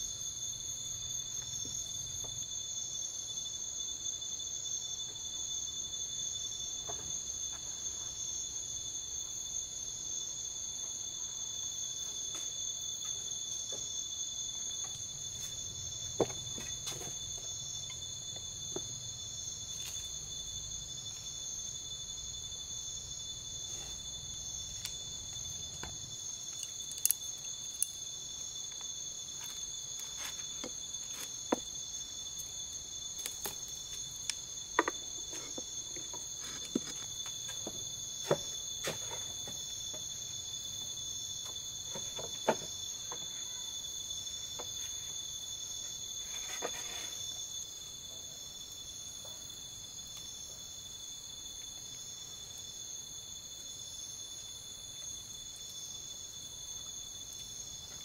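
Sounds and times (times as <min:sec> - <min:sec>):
insects shrilling at night: 0:00.0 - 0:58.0.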